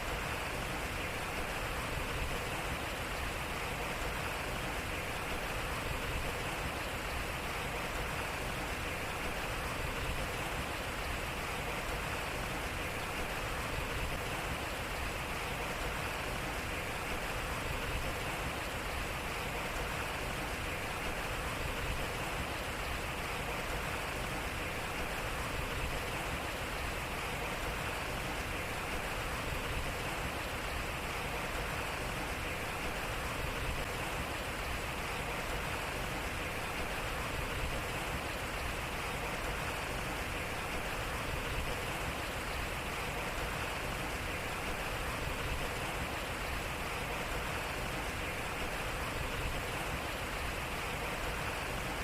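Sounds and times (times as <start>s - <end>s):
water rushing off waterwheel: 0.0s - 52.0s.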